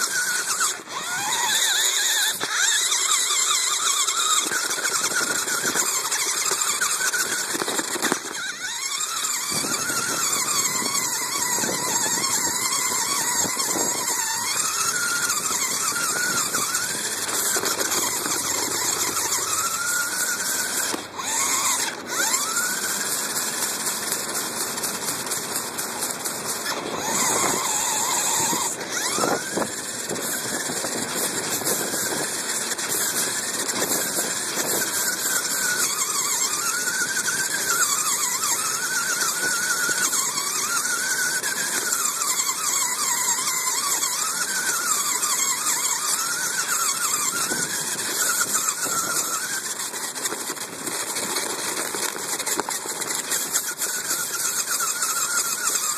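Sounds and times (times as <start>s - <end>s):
running noise hiss: 0.0s - 55.9s
toy car motor whining: 0.0s - 55.9s.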